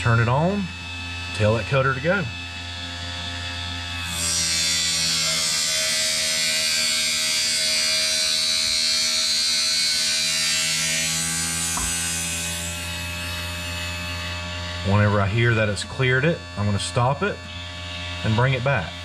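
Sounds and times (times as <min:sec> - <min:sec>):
cutter shaving foam tire: 0:00.0 - 0:19.0
motor hum: 0:00.0 - 0:19.0.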